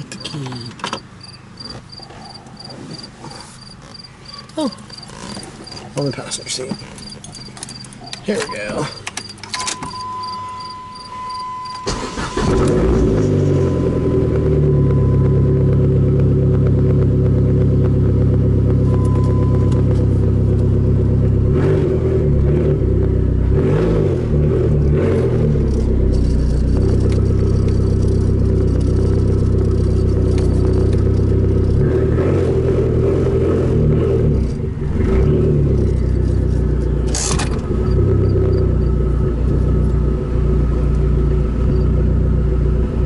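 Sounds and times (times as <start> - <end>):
car engine cranking and starting: 0.0 - 43.0
car engine running: 0.0 - 43.0.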